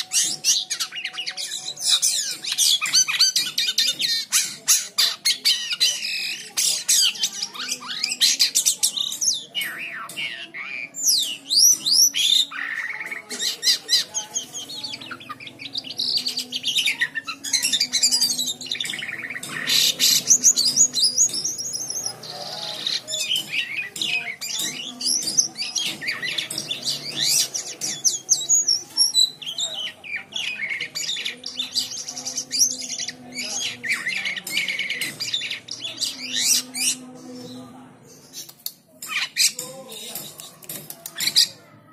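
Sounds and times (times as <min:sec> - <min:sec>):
songbird singing: 0:00.0 - 0:41.6.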